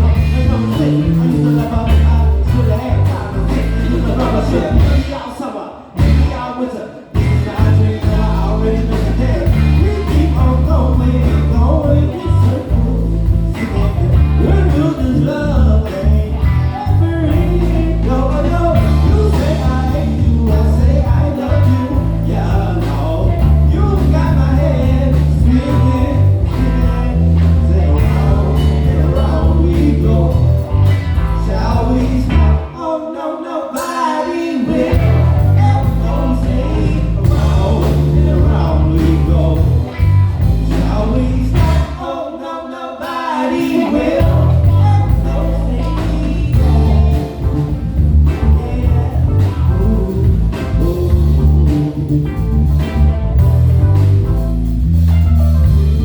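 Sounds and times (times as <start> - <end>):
heavy bass line: 0.0 - 5.2, 6.0 - 6.5, 7.2 - 32.8, 34.7 - 42.0, 43.7 - 56.0
live band playing: 0.0 - 32.8, 33.8 - 42.2, 43.1 - 56.0.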